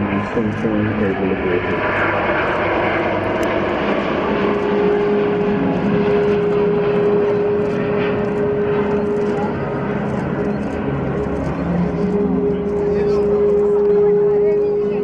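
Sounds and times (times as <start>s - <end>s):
loud jet engine roar: 0.0s - 15.0s.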